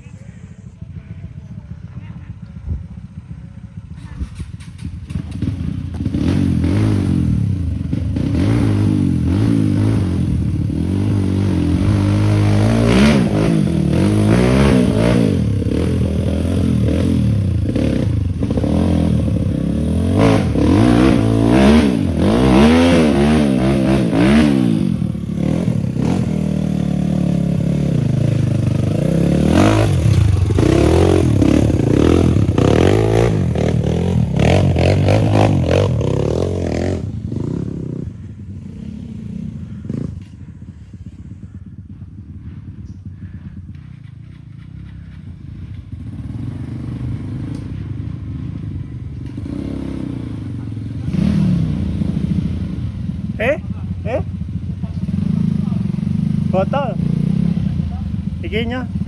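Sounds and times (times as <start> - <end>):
two-stroke motorbike engine revving: 0.0 - 59.0.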